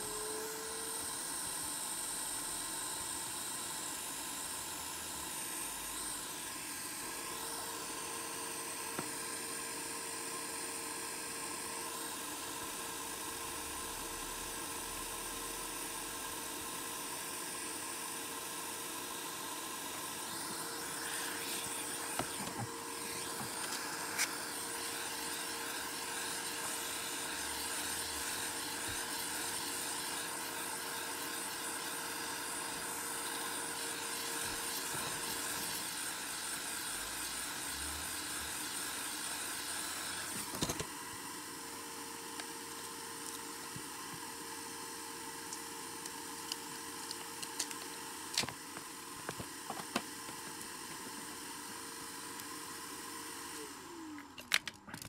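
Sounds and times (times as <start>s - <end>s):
electric blower whining: 0.0s - 54.5s.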